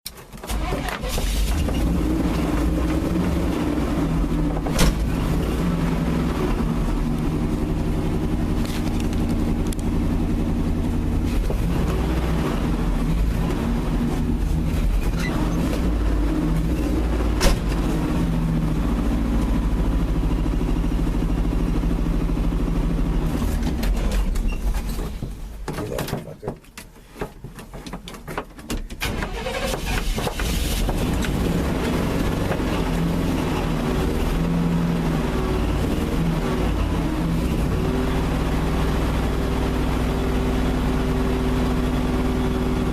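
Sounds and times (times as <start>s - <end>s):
pickup truck engine running hard: 0.5s - 24.5s, 29.1s - 42.9s.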